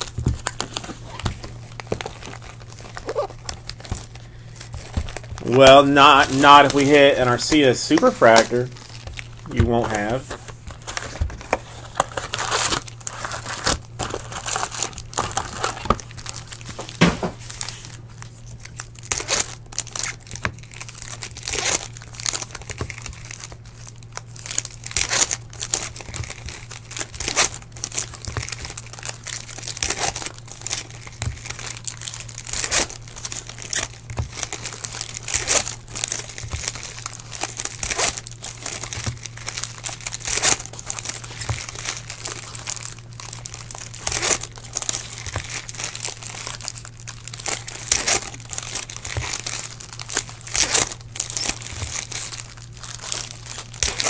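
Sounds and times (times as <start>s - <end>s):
steady low hum: 0.0s - 54.0s
wrapping crinkling and tearing: 0.0s - 54.0s.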